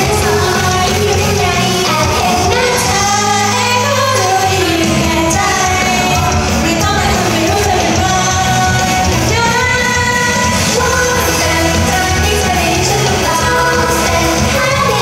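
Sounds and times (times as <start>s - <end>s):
pop song with female vocals: 0.0s - 15.0s.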